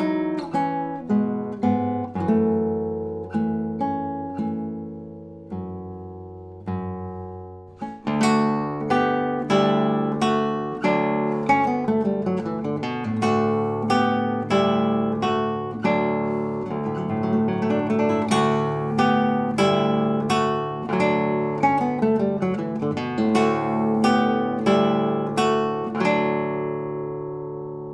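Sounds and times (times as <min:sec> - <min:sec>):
fingerpicked classical guitar: 0:00.0 - 0:27.9.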